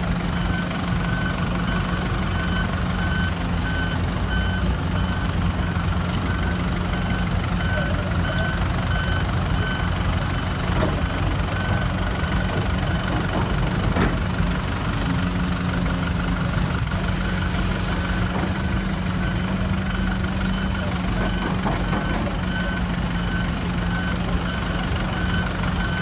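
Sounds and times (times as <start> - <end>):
heavy diesel engine running: 0.0 - 26.0
reversing alarm beeping: 0.3 - 26.0.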